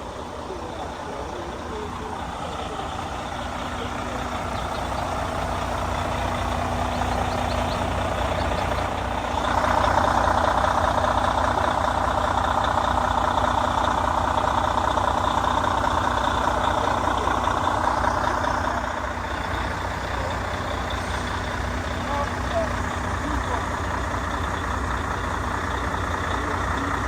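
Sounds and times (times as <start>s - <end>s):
heavy truck engine rumbling: 0.0s - 27.0s.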